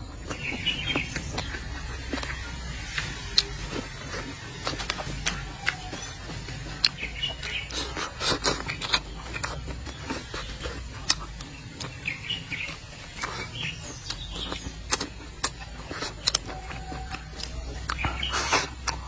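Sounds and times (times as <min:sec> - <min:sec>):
bird chirps: 0:00.2 - 0:03.6, 0:05.0 - 0:08.0, 0:08.6 - 0:18.8
chewing and wet mouth clicks: 0:00.2 - 0:19.0.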